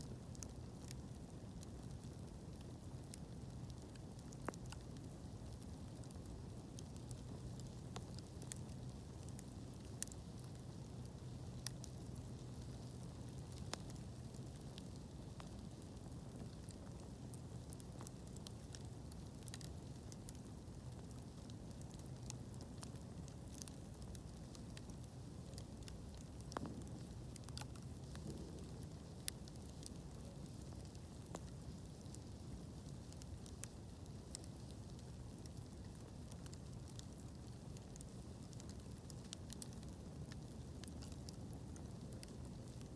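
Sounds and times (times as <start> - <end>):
crackles and pops of fire: 0.0 - 42.9.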